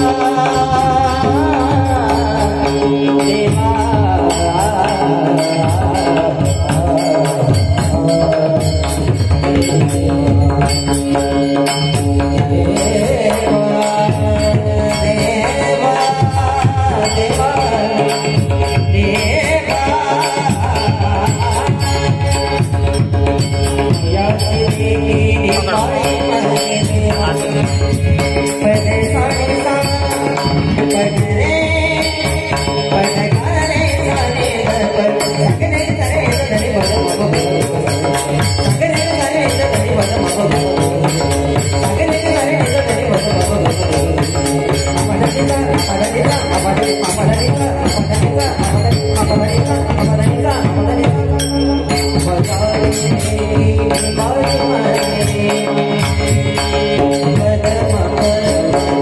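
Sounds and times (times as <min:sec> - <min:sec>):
devotional music: 0:00.0 - 0:59.0
drums: 0:00.0 - 0:59.0
hand cymbals jingling: 0:00.0 - 0:59.0.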